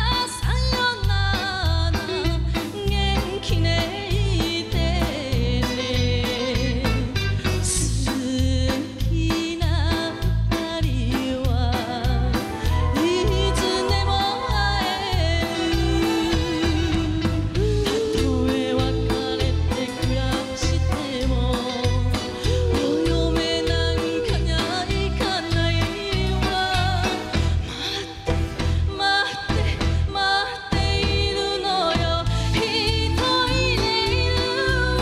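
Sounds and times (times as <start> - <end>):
backing band with steady beat: 0.0 - 35.0
woman singing with vibrato: 0.0 - 35.0.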